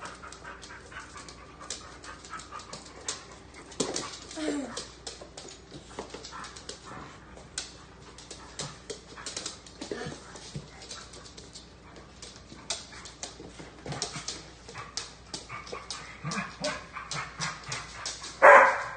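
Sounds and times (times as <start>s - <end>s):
dog claws clicking on hardwood: 0.0s - 18.9s.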